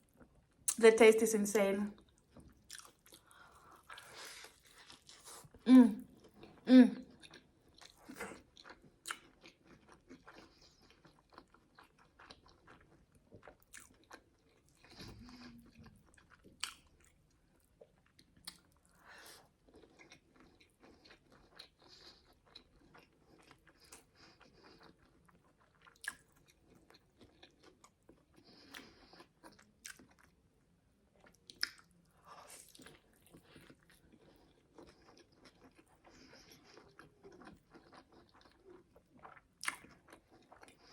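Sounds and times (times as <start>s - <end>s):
chewing crispy food: 2.0s - 40.9s.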